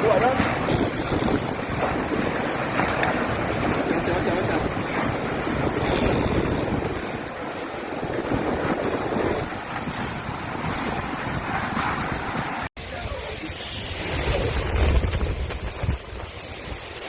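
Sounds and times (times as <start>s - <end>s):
rushing water: 0.0s - 17.0s
strong wind buffeting microphone: 0.0s - 17.0s.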